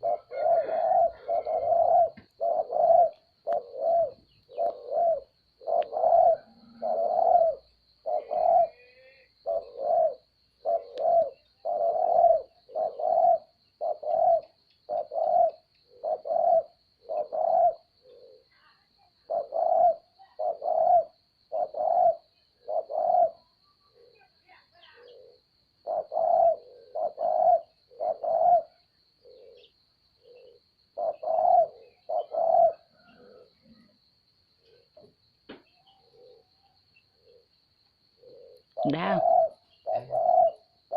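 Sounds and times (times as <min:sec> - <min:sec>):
dove cooing: 0:00.0 - 0:40.9
faint high-pitched hiss: 0:00.0 - 0:40.9.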